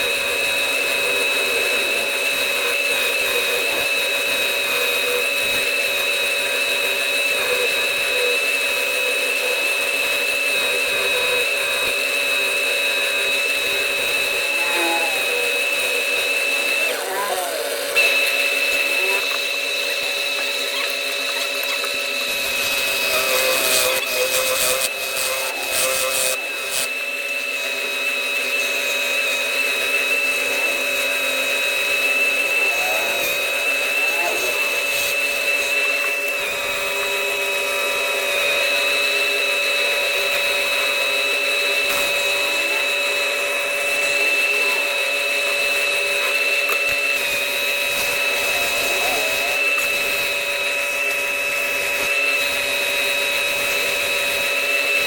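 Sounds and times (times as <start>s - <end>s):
machine high-pitched whine: 0.0s - 55.0s
machining noise: 0.0s - 55.0s.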